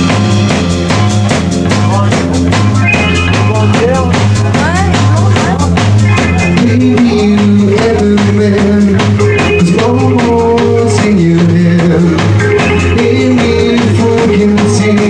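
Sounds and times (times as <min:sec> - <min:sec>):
bass guitar: 0:00.0 - 0:15.0
drum kit beat: 0:00.0 - 0:15.0
electric guitars: 0:00.0 - 0:15.0.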